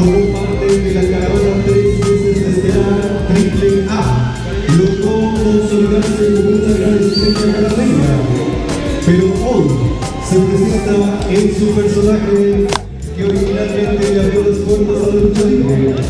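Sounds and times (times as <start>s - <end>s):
song over sound system: 0.0s - 16.0s.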